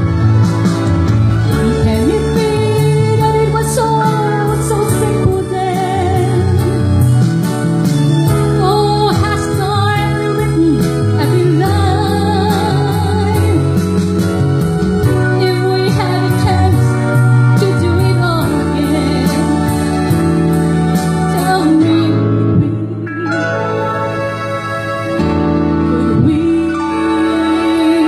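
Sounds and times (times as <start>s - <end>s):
song with vocals beat and bass: 0.0s - 24.3s.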